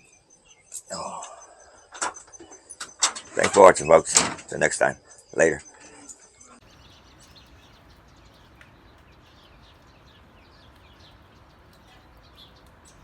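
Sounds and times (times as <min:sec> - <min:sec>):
small songbird chirping: 0:00.0 - 0:13.0.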